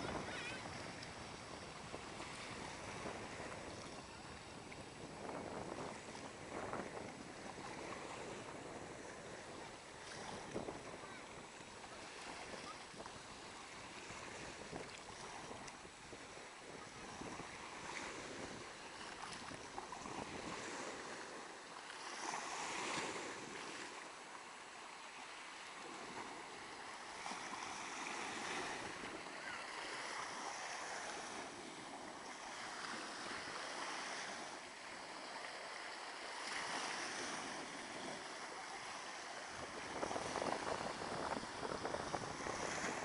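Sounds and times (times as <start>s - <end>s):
waves washing onto sandy beach: 0.0s - 43.0s.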